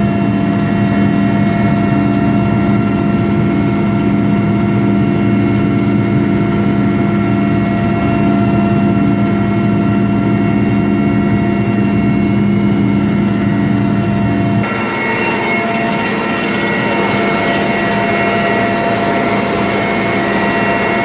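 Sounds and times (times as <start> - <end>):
helicopter engine and rotor drone: 0.0 - 21.0
helicopter whine: 0.0 - 21.0.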